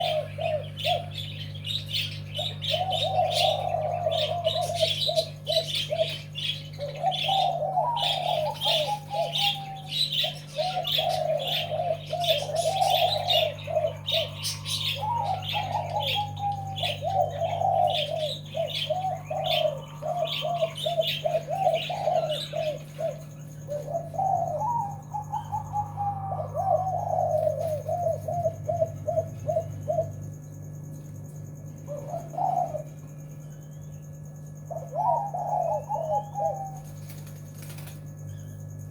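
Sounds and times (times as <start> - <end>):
dove cooing: 0.0 - 38.9
small birds chirping: 0.0 - 38.9
steady low hum: 0.0 - 38.9.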